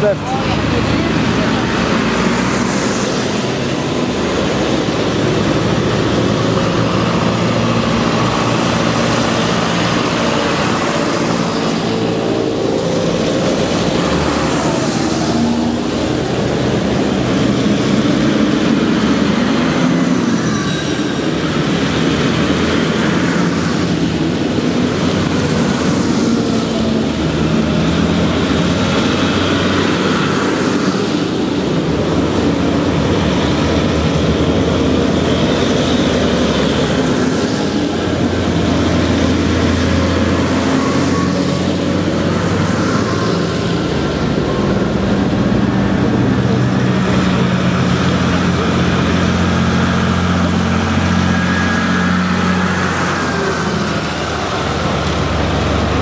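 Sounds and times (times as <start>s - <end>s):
tractor engines passing: 0.0s - 56.0s.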